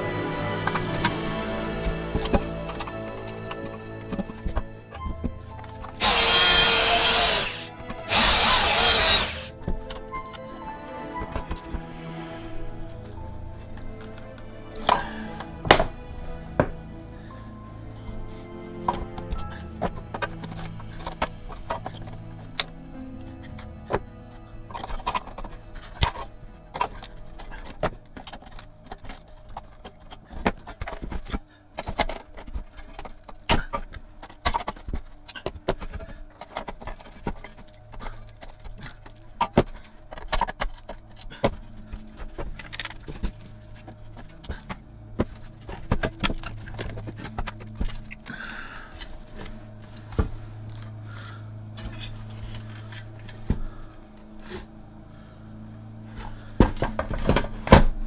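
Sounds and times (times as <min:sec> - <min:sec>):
background music: 0:00.0 - 0:58.0.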